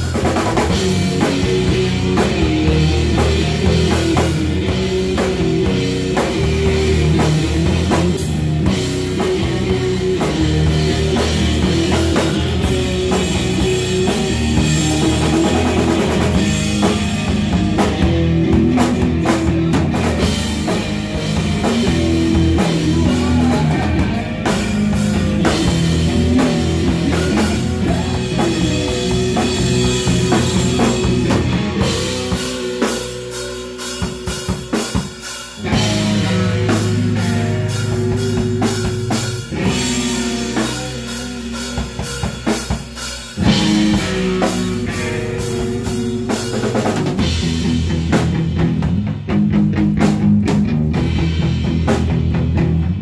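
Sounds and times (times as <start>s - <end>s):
distorted electric guitar: 0.0s - 53.0s
drum kit: 0.0s - 53.0s
electric bass: 0.0s - 53.0s.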